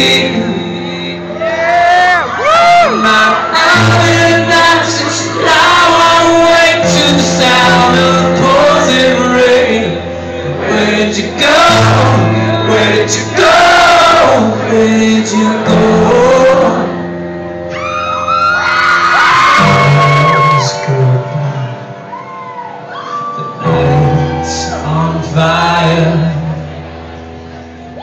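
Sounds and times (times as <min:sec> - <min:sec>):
person singing: 0:00.0 - 0:17.1, 0:19.3 - 0:27.0.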